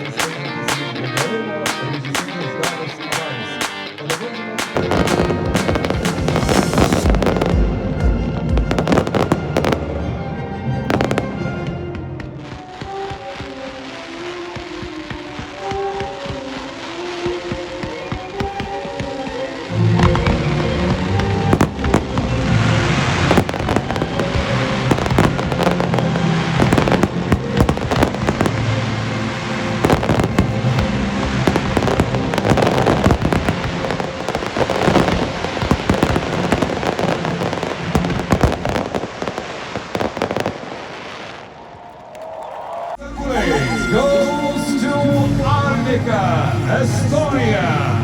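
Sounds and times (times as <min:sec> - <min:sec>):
fireworks bangs and crackles: 0:00.0 - 0:10.1, 0:10.9 - 0:42.3
music: 0:00.0 - 0:39.0, 0:43.0 - 0:48.0.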